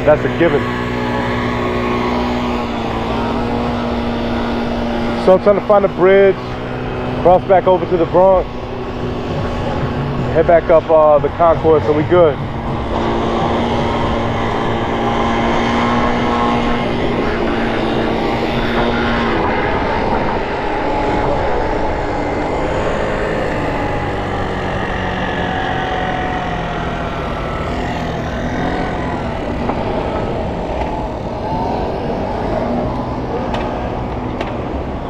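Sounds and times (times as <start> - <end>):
low engine tone: 0.0 - 35.0
street traffic: 0.0 - 35.0.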